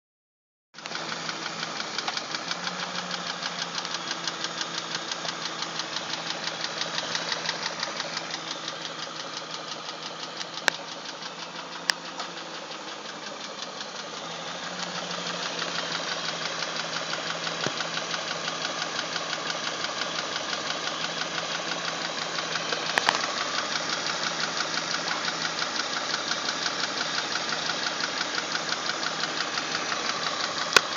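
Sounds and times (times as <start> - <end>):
car engine idling with ticking: 0.8 - 30.9.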